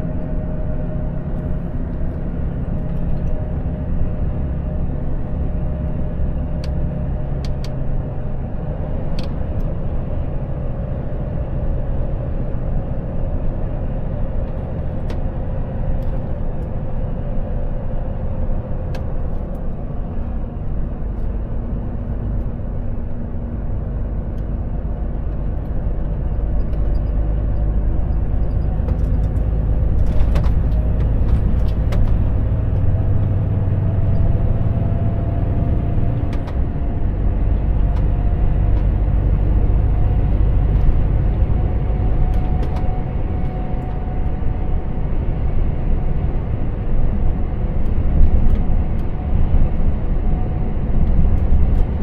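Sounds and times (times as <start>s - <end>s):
truck diesel engine running: 0.0s - 52.0s.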